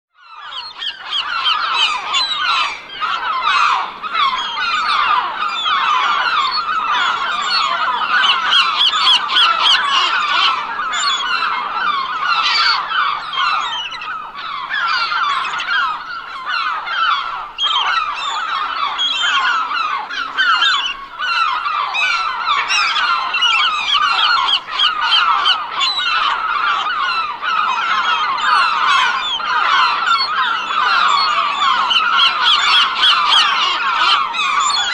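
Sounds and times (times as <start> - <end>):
seagulls squawking: 0.2 - 34.9.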